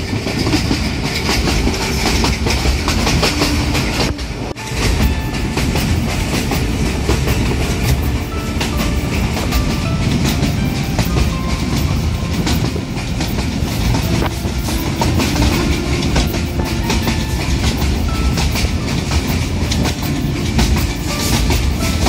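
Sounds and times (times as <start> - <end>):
train rumbling: 0.0 - 22.0
wheels rattling and clicking: 0.0 - 22.0.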